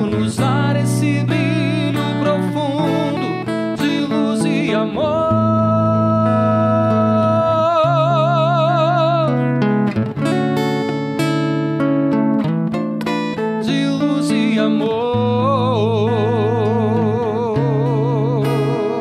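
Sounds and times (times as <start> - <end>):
man singing: 0.0 - 9.7, 13.3 - 19.0
acoustic guitar chords: 0.0 - 19.0.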